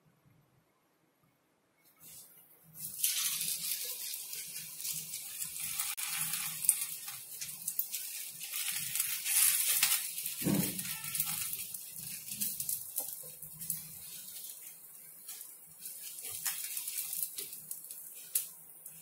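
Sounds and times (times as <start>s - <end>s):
oil sizzling on hot griddle: 2.0s - 19.0s.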